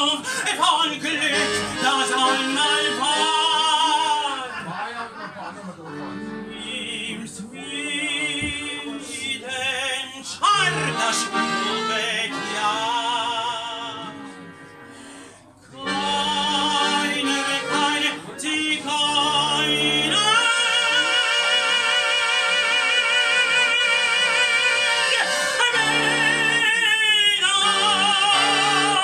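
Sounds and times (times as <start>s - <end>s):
instrumental accompaniment: 0.0s - 4.3s, 5.8s - 7.2s, 10.5s - 26.9s, 27.5s - 29.0s
operetta-style singing: 0.0s - 4.3s, 6.6s - 14.2s, 15.7s - 29.0s.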